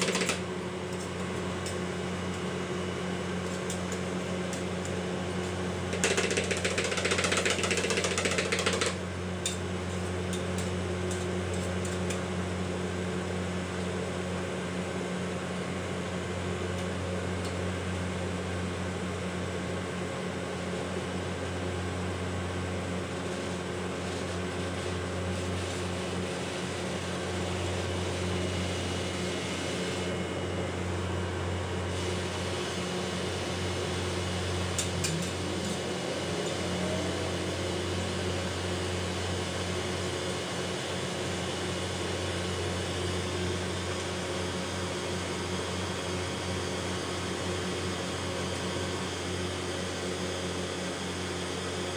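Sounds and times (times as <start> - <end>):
refrigeration machinery hum: 0.0 - 51.9.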